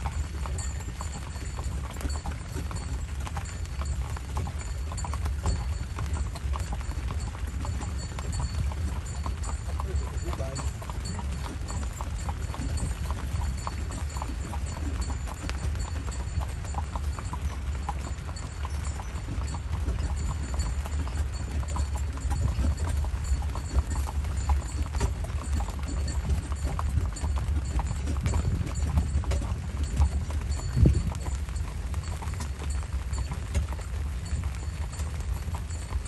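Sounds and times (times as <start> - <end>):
horse hooves clip-clopping on pavement: 0.0 - 36.0.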